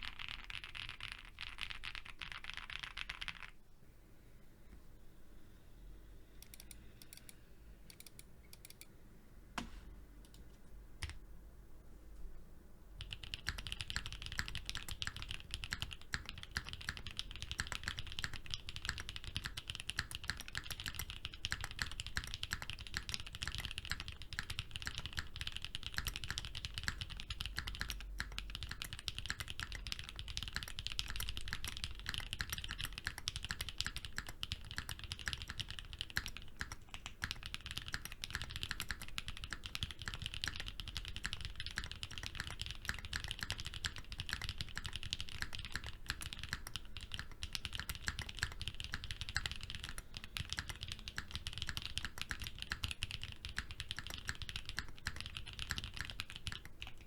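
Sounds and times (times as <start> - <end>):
mechanical keyboard typing: 0.0 - 3.6, 6.4 - 8.8, 13.0 - 57.0.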